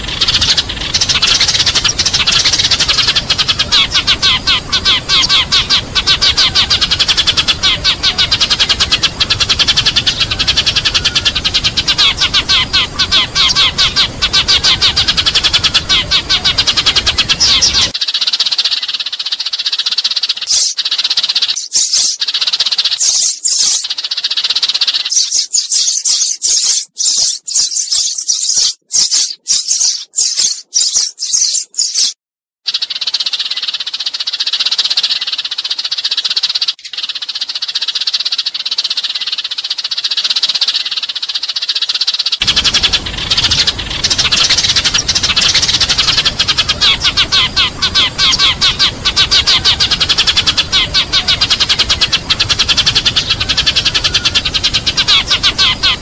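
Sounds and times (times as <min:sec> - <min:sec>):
rapid repeated chirps: 0:00.0 - 0:56.0
sparrows chirping and chattering: 0:00.0 - 0:56.0.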